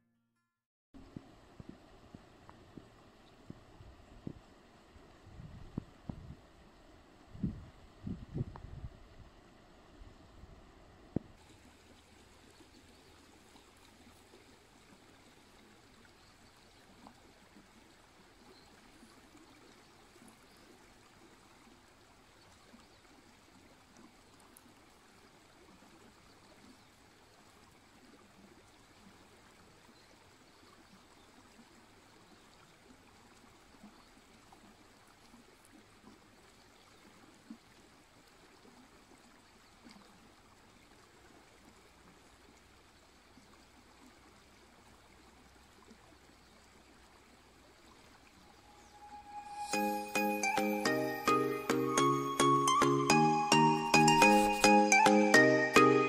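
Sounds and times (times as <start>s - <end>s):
river running over stones: 10.8s - 55.8s.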